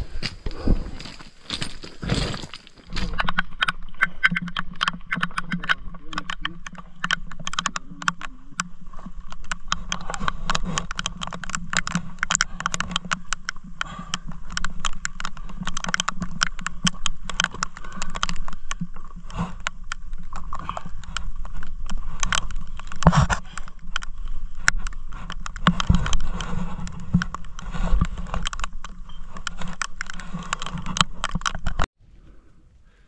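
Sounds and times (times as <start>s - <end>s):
raindrops tapping on camera housing: 3.2s - 31.9s.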